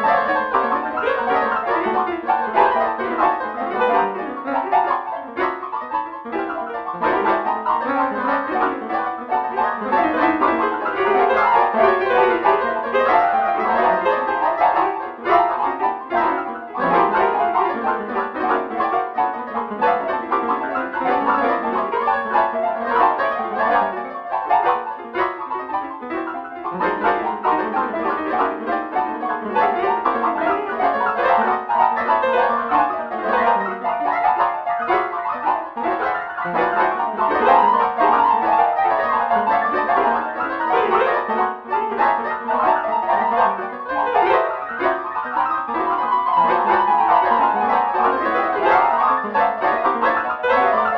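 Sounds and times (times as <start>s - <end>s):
synthesized piano and brass music: 0.0s - 50.9s.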